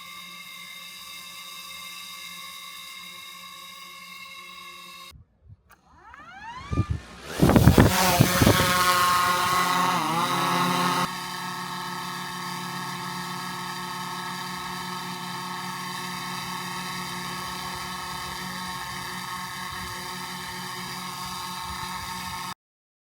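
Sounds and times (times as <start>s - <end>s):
drone propellers whining: 0.0s - 5.1s, 5.7s - 22.6s.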